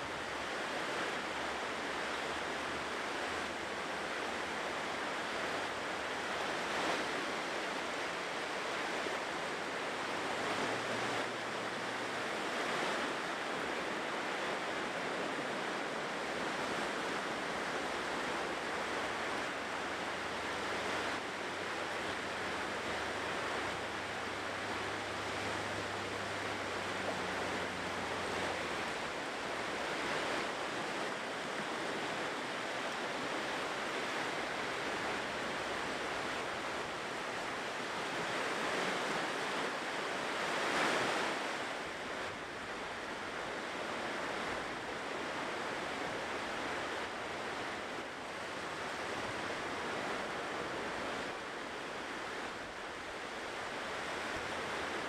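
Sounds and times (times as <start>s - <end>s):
ocean surf washing on shore: 0.0s - 55.0s.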